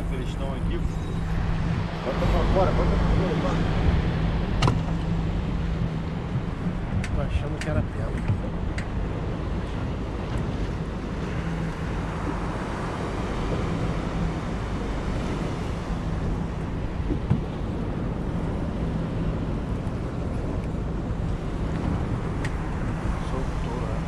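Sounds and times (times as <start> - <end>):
low motor hum: 0.0 - 24.0
rushing water: 0.0 - 24.0
wind buffeting microphone: 0.0 - 24.0.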